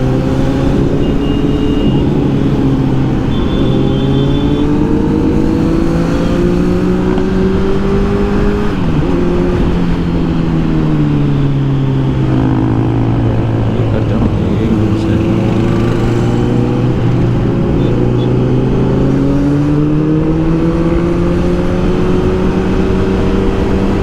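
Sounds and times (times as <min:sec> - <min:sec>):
motorcycle engine under way: 0:00.0 - 0:24.0.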